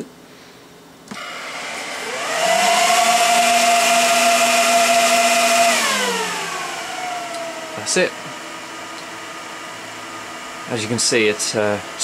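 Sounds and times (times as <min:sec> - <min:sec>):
server fans whining: 0:00.0 - 0:12.0.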